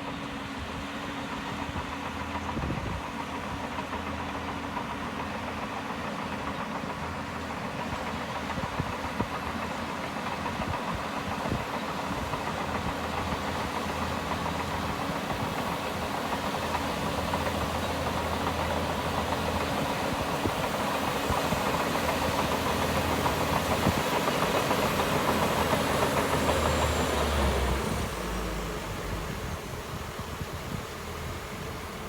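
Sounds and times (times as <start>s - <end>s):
heavy machinery diesel engine: 0.0s - 32.0s.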